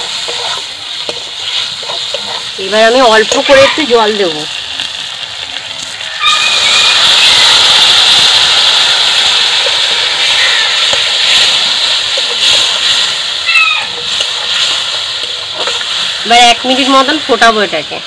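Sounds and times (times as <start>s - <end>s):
water hissing in hot oil: 0.0s - 18.0s.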